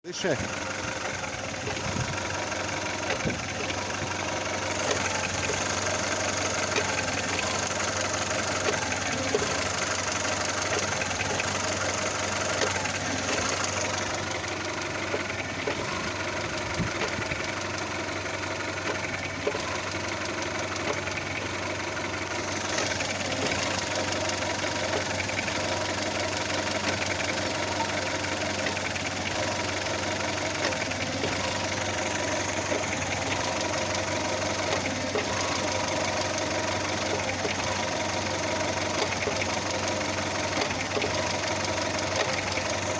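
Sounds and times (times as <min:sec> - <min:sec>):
car engine idling: 0:00.1 - 0:42.9
engine rattle: 0:00.1 - 0:42.9.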